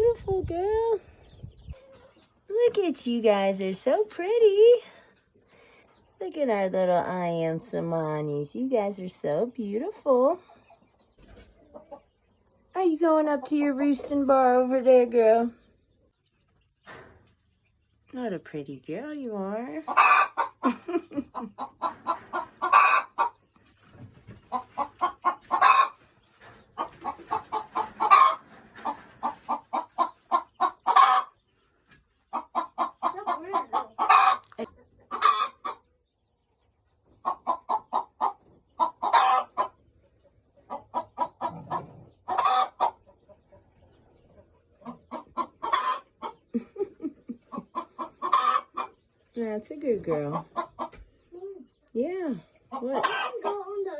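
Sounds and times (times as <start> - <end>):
hens clucking: 0.0 - 6.2, 9.0 - 18.1, 19.3 - 53.9.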